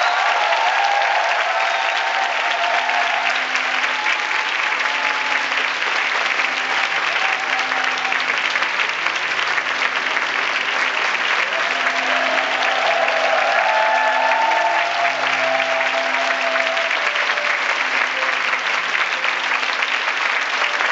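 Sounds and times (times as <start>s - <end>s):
audience applauding: 0.0s - 20.9s.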